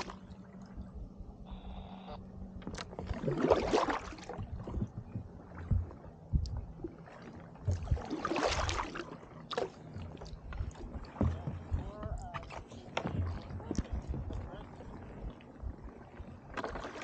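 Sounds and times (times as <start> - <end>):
paddle splashing through water: 0.0 - 0.6, 2.6 - 17.0.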